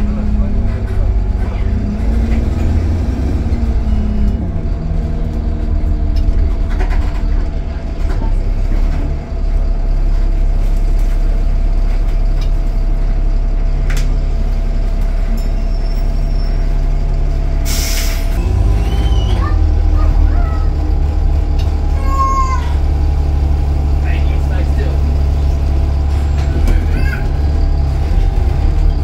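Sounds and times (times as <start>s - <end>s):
bus engine drone with whine: 0.0s - 29.0s.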